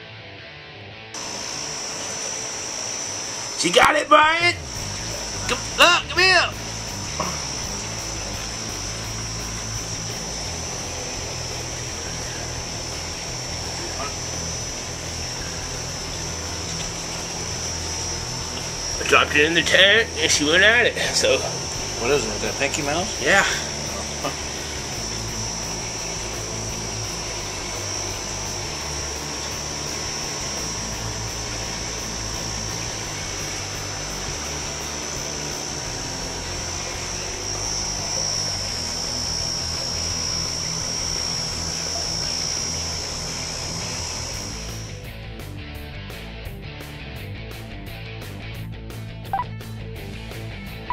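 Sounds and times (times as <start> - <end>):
constant high whine: 0.0 - 50.9
low hum: 1.2 - 45.2.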